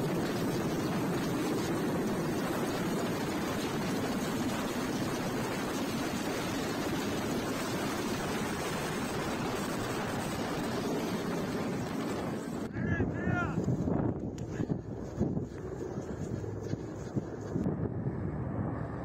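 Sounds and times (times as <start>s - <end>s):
helicopter engines and rotor: 0.0s - 19.0s.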